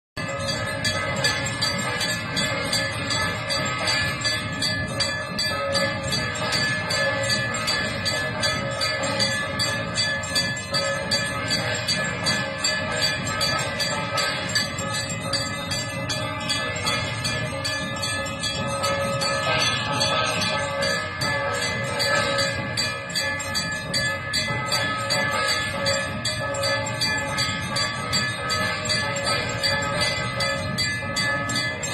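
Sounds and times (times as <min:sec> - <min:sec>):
bells ringing: 0:00.2 - 0:31.9.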